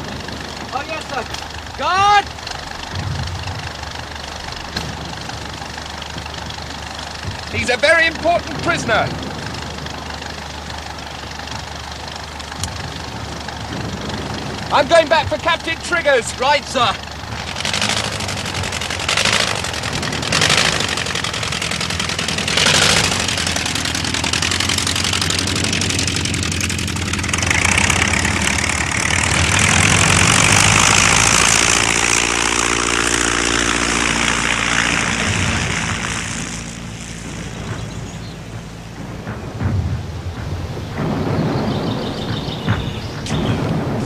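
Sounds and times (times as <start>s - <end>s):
propeller aeroplane engine: 0.0s - 44.0s.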